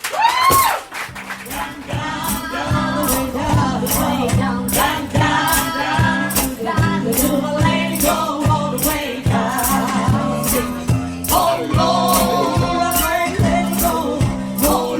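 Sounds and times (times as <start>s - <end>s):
hand percussion beat: 0.4s - 14.9s
bass line: 0.6s - 14.9s
vocal trio singing in harmony: 1.3s - 14.9s.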